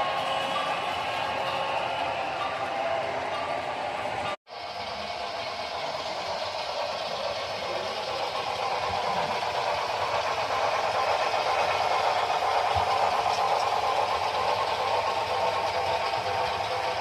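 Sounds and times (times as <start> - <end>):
model train mechanical whir: 0.0 - 17.0.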